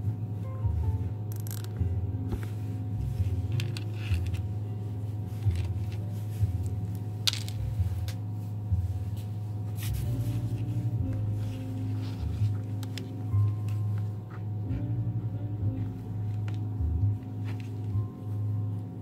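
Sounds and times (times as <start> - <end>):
background music with bass: 0.0 - 19.0.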